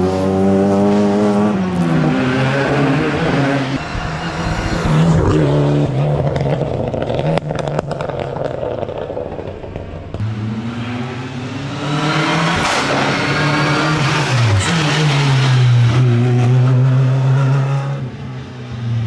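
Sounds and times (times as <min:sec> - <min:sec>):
race car engine revving: 0:00.0 - 0:09.0, 0:10.2 - 0:18.4.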